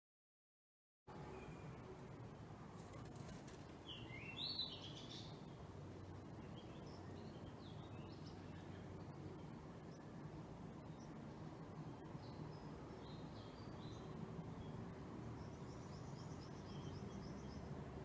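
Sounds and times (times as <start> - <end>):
faint steady background noise: 1.1 - 18.0
small birds chirping: 2.8 - 18.0.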